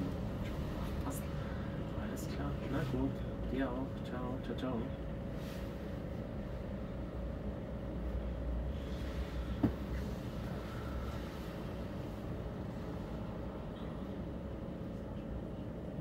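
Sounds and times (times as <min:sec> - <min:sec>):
tram cab hum and rumble: 0:00.0 - 0:16.0.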